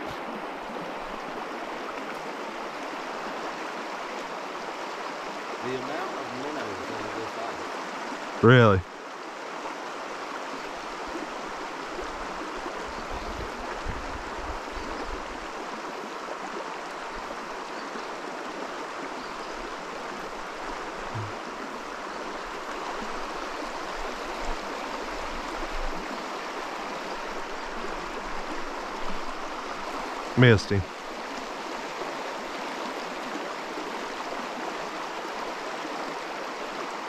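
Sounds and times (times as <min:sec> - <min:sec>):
flowing stream water: 0:00.0 - 0:37.0.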